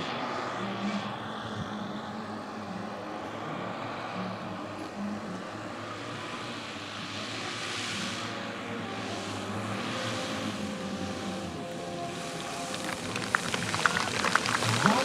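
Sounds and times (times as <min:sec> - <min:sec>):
model engines droning: 0:00.0 - 0:15.0.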